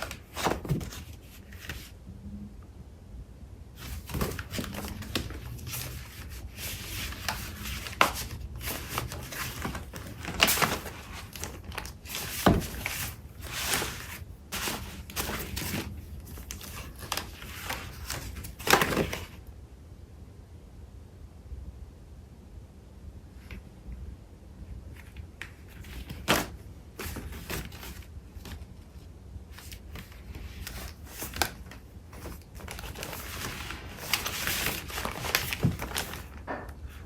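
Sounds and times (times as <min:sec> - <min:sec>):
paper rustling and crinkling: 0:00.0 - 0:02.0, 0:03.8 - 0:19.4, 0:24.9 - 0:37.0.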